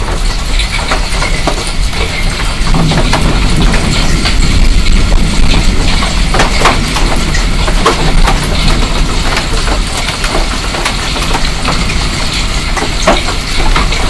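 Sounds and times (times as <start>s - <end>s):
hailstones striking hard surfaces: 0.0s - 14.0s
low rush of storm: 0.0s - 14.0s.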